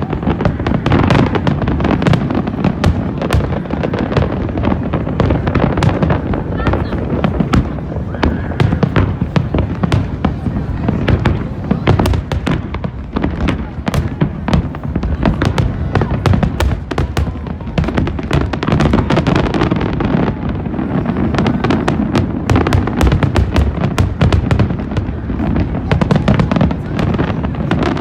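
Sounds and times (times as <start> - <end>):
fireworks crackling pops: 0.0 - 28.0.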